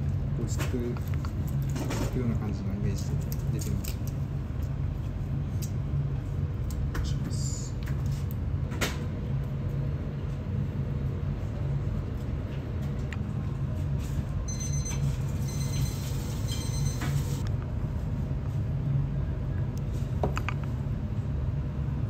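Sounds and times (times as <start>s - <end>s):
restaurant room noise: 0.0s - 22.0s.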